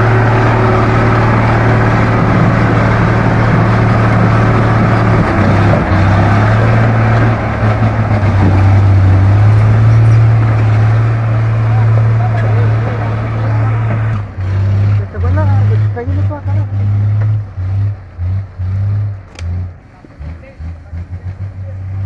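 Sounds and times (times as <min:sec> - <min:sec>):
diesel truck engine straining: 0:00.0 - 0:22.0.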